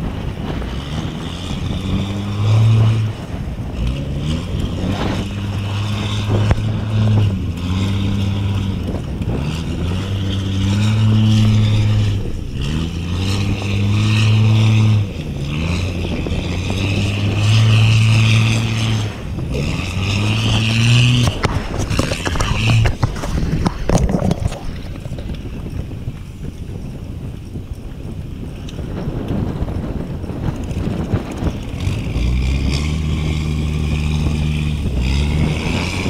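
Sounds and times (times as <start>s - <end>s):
boat engine revving: 0.0s - 36.0s.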